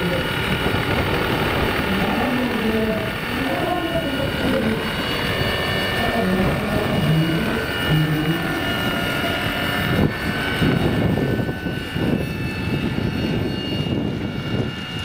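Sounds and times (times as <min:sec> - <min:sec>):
rotor whoosh: 0:00.0 - 0:14.0
model helicopter motor whine: 0:00.0 - 0:15.0
wind buffeting microphone: 0:00.0 - 0:15.0.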